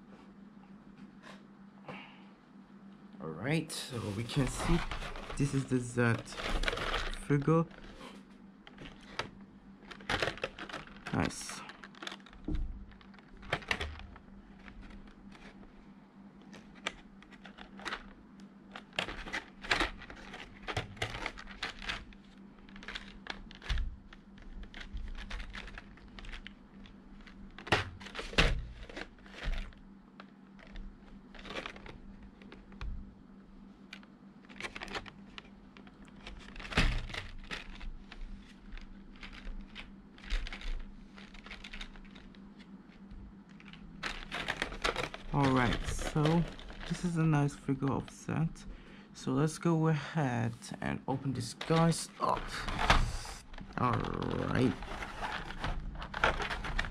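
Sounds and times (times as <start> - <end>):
plastic blister tray crinkling: 4.0 - 15.7, 16.4 - 33.1, 33.8 - 48.6, 51.3 - 56.9.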